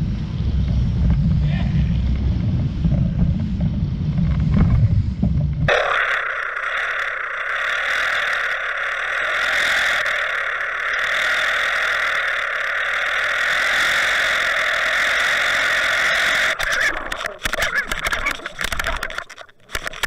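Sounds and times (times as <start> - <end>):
underwater outboard motor drone: 0.0 - 20.0.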